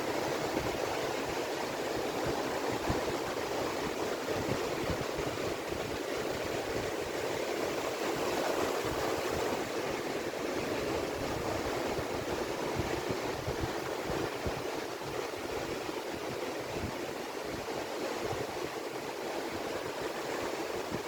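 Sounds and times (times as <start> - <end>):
ocean surf washing onto beach: 0.0 - 21.0.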